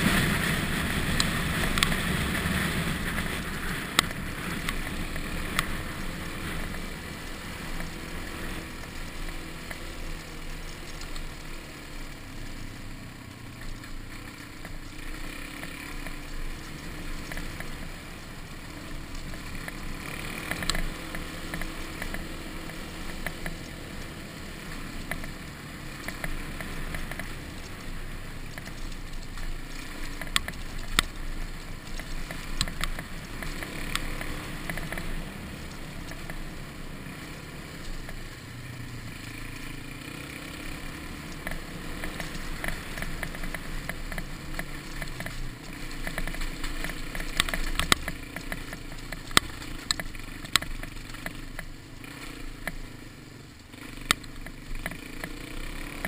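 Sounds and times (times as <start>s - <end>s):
gravel crunching under tyres: 0.0s - 56.0s
motorcycle engine running: 0.0s - 56.0s.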